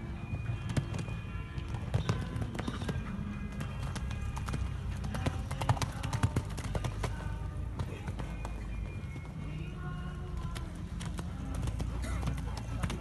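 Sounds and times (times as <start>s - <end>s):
horse hoofbeats on sand: 0.0s - 13.0s
music playing: 0.0s - 13.0s.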